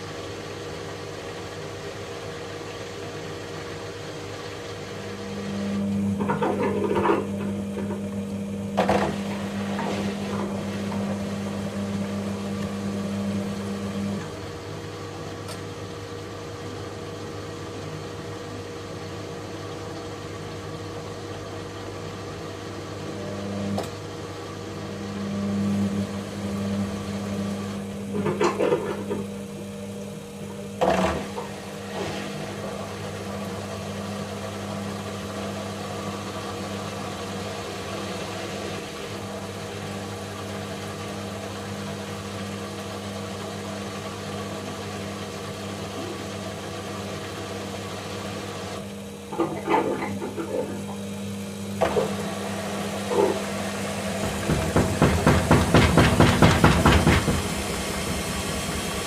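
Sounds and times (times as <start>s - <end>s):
washing machine drum spinning: 0.0s - 59.0s.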